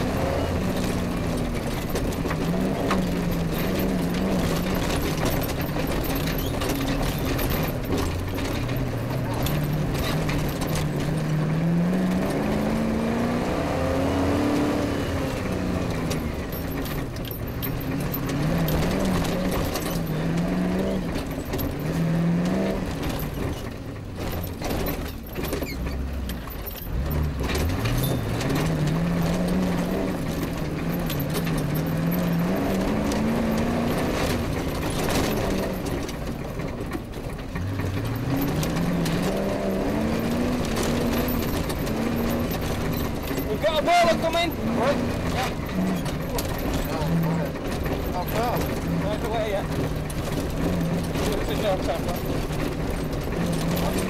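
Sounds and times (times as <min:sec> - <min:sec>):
car body rattling over rough ground: 0:00.0 - 0:54.0
rally car engine revving: 0:00.0 - 0:54.0.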